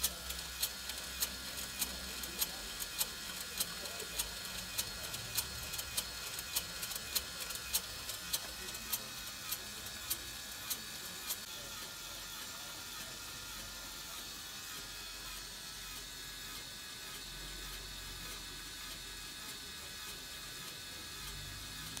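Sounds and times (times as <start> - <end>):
gears ticking: 0.0 - 22.0
rotisserie motor whir: 0.0 - 22.0.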